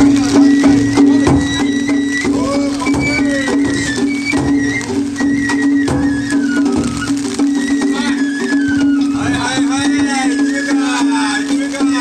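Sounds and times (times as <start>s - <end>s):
flute-like melody: 0.0s - 12.0s
taiko drums struck: 0.0s - 12.0s.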